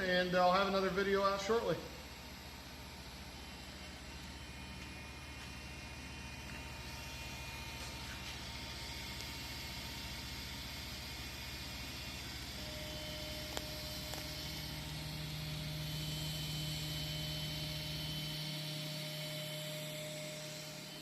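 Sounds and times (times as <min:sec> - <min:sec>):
gantry motors whining: 0:00.0 - 0:21.0
low pulsing: 0:00.0 - 0:21.0.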